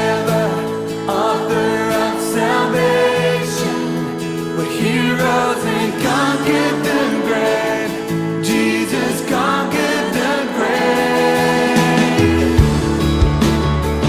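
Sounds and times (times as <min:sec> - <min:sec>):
person singing: 0:00.0 - 0:13.0
guitar accompaniment: 0:00.0 - 0:14.0.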